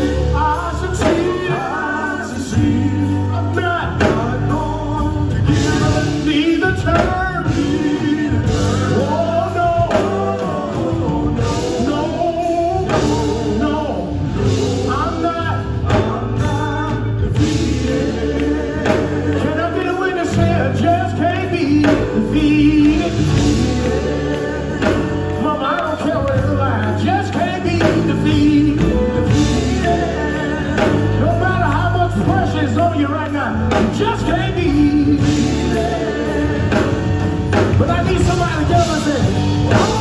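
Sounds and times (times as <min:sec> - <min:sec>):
electric bass guitar: 0:00.0 - 0:40.0
keyboard: 0:00.0 - 0:40.0
male vocal group singing: 0:00.0 - 0:40.0.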